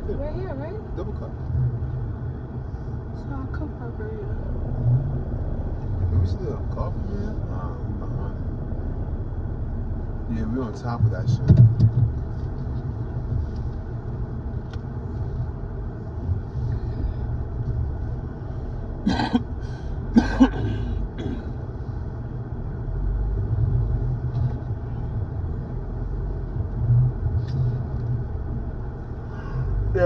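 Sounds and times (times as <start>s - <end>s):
car engine rumble inside cabin: 0.0s - 30.0s.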